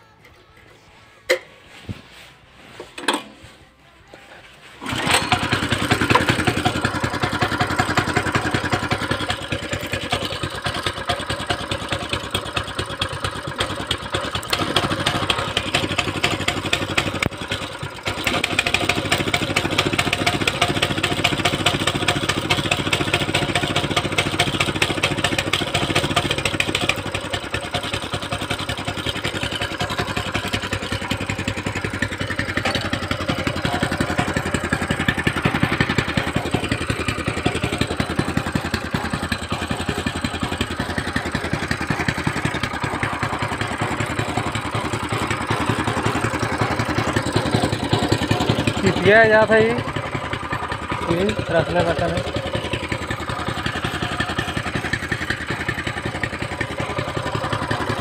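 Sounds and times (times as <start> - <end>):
small petrol engine running: 4.6 - 58.0.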